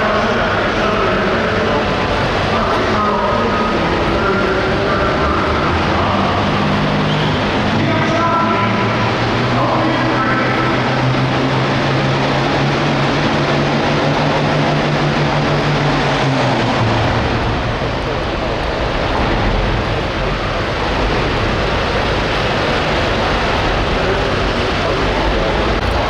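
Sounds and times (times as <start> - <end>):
tractor diesel engine running hard: 0.0 - 26.0.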